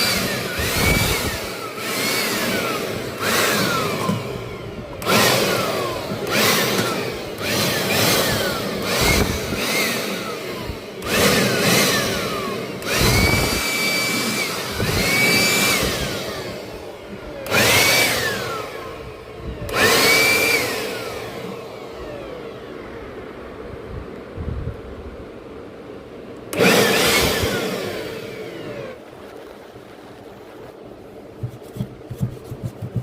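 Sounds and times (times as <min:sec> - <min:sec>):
small electric motor whining: 0:00.0 - 0:23.0, 0:26.5 - 0:30.7.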